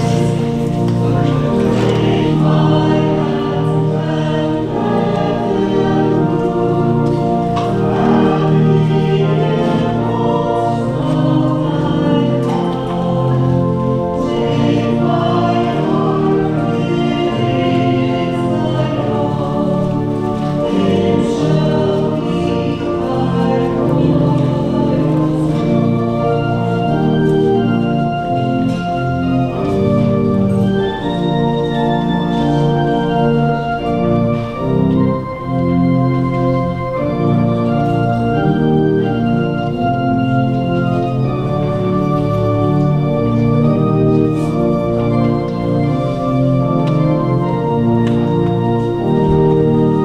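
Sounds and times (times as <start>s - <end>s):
church organ chords: 0.0s - 50.0s.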